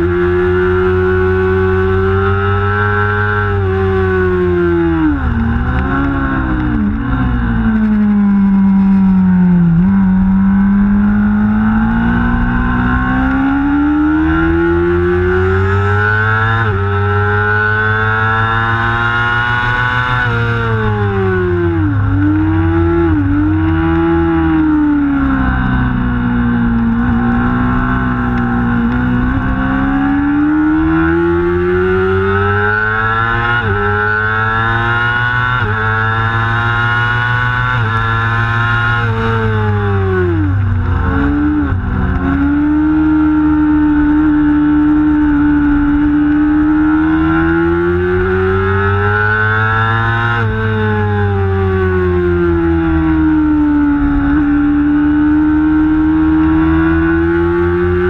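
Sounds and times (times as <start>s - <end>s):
motorcycle engine at racing speed: 0.0s - 58.0s.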